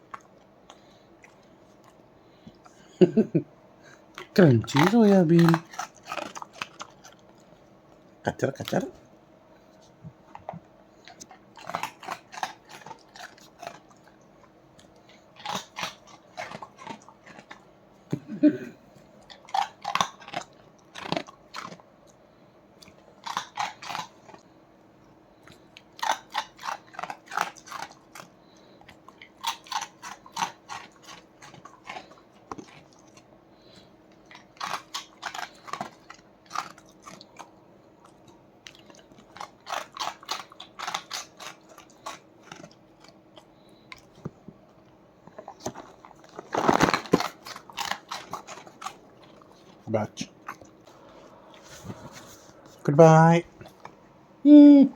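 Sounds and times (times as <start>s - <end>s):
dog crunching dry snack: 4.1s - 9.0s, 10.2s - 18.3s, 19.0s - 22.2s, 22.8s - 24.5s, 25.4s - 54.0s.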